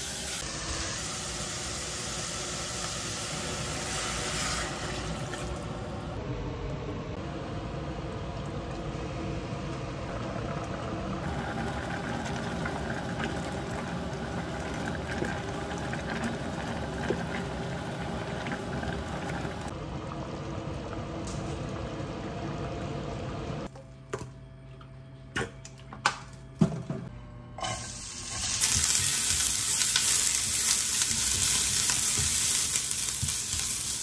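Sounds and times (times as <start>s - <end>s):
stew boiling and bubbling: 0.0s - 23.8s, 28.2s - 34.0s.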